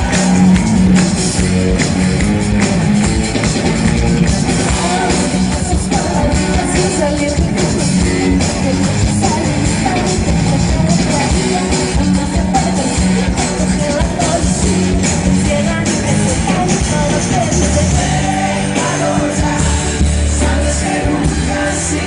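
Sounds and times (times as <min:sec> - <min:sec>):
person singing: 0:00.0 - 0:01.9, 0:04.2 - 0:22.0
drum kit: 0:00.0 - 0:22.0
guitar: 0:00.0 - 0:22.0.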